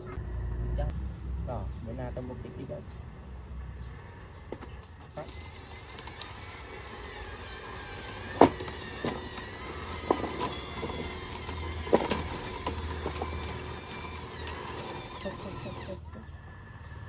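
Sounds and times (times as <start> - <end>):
electric motor and pump whining: 2.0 - 17.0.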